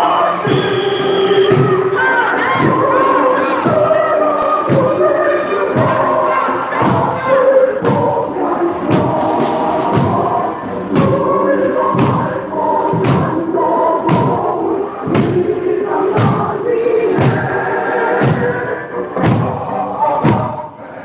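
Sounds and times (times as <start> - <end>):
group singing a march: 0.0 - 21.0
barrel drums beating: 0.1 - 20.6.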